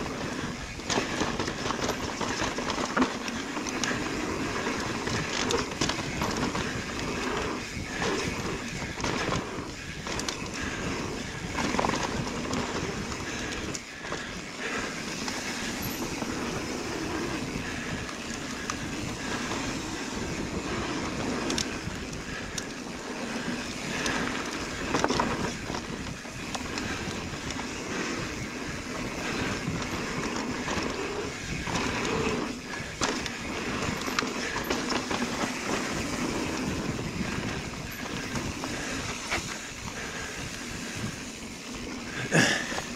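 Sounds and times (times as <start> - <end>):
bike rattling and knocking: 0.0 - 42.9
bike tyres on dirt: 0.0 - 42.9.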